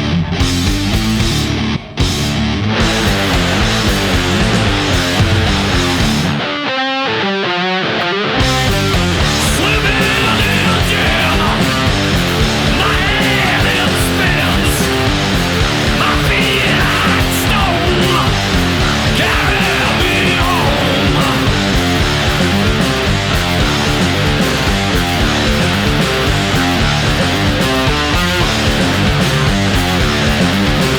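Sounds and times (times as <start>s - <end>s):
electric guitar: 0.0s - 30.9s
heavy rock band riff: 0.0s - 30.9s.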